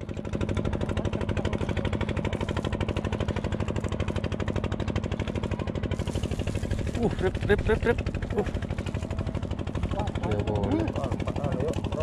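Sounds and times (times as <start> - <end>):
boat engine putter: 0.0 - 12.0.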